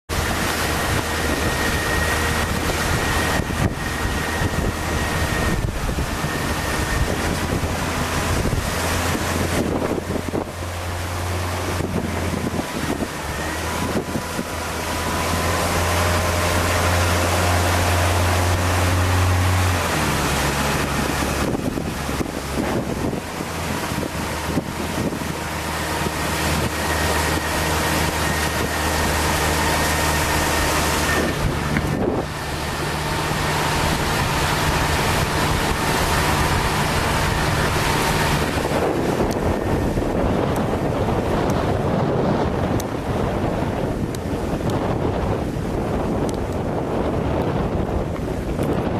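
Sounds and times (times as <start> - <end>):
choppy water: 0.0 - 48.9
motorboat engine hum: 0.0 - 48.9
wind buffeting microphone: 0.1 - 48.9.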